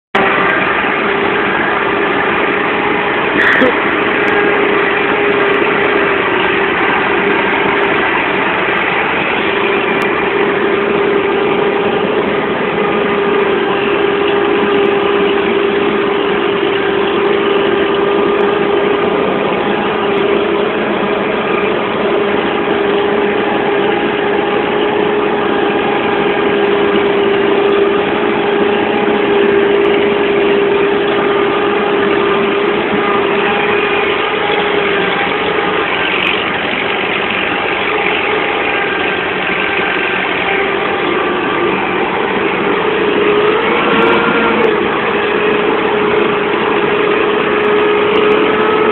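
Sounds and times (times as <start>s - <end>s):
tractor diesel engine running: 0.1s - 48.9s.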